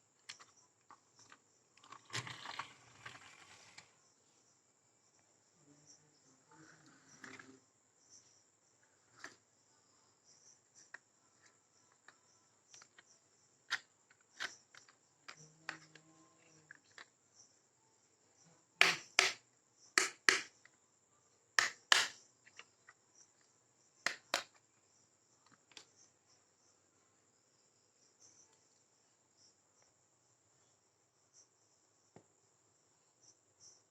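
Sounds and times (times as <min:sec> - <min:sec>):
insect chirring: 0:00.0 - 0:33.9.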